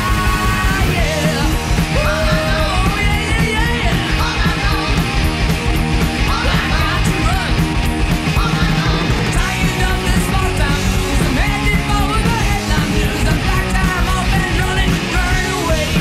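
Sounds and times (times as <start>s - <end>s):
bass guitar: 0.0s - 16.0s
distorted electric guitar: 0.0s - 16.0s
drums: 0.0s - 16.0s.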